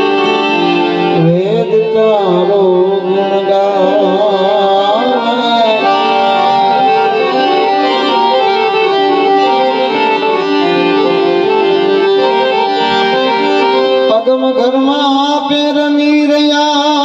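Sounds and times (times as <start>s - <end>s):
melody instrument playing held notes: 0.0s - 14.5s.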